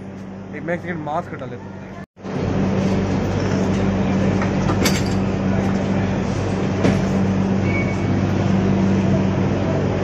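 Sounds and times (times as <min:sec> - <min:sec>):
train hum and rumble: 0:00.0 - 0:10.0.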